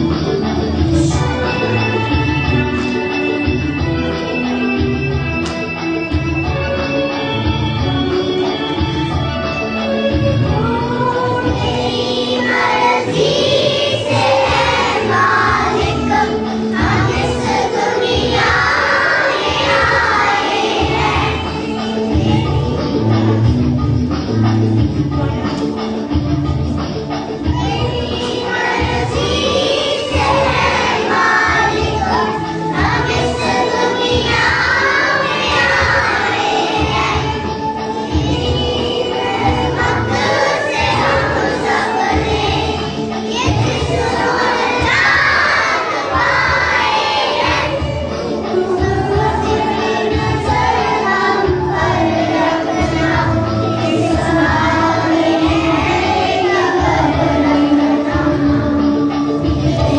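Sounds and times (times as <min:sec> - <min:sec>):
children's choir singing: 0:00.0 - 0:59.9
music with steady beat: 0:00.0 - 0:59.9.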